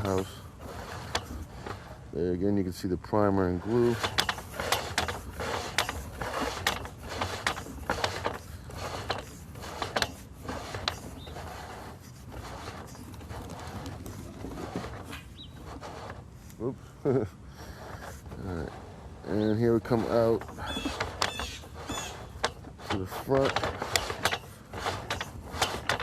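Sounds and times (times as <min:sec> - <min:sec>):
push rod clicking and scraping in pipe: 0:00.0 - 0:16.7, 0:17.6 - 0:26.0.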